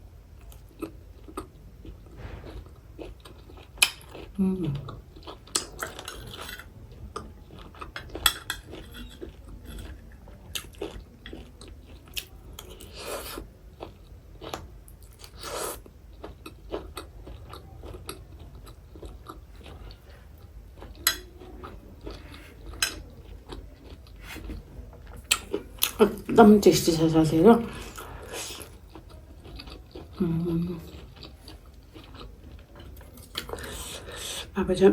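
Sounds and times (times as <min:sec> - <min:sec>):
wet crunchy chewing: 0:00.4 - 0:34.5.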